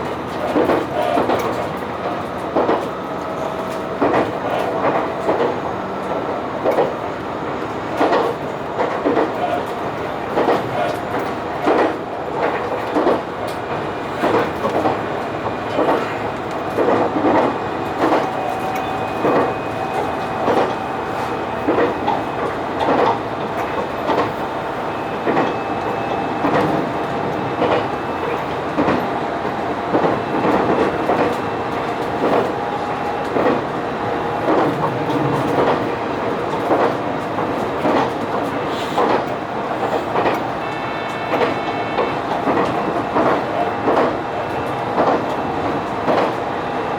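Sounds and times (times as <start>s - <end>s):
train running rumble and hum: 0.0s - 46.9s
train wheels clicking over rail joints: 0.0s - 46.9s.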